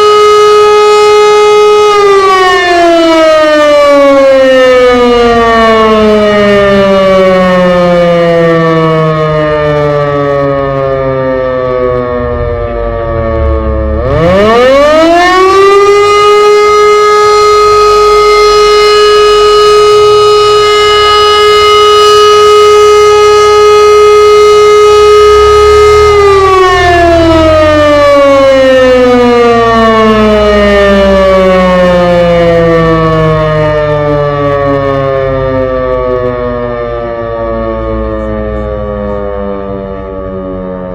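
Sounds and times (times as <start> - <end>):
civil defence siren wailing: 0.0 - 40.9.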